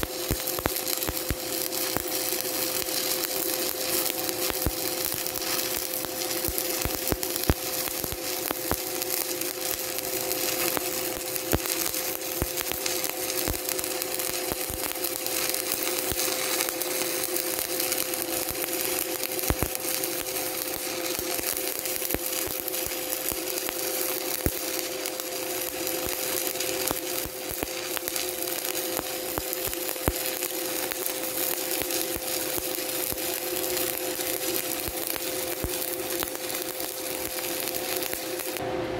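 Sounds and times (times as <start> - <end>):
welding arc crackling and popping: 0.0 - 38.6.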